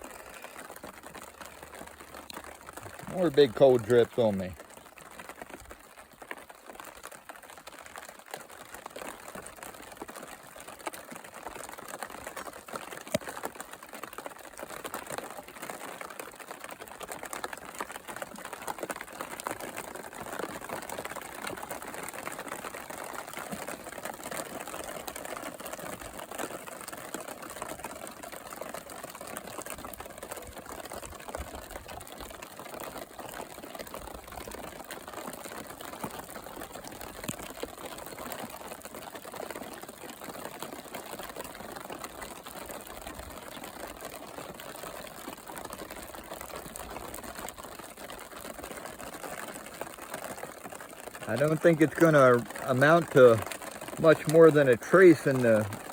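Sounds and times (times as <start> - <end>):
rain drops pattering: 0.0 - 55.9.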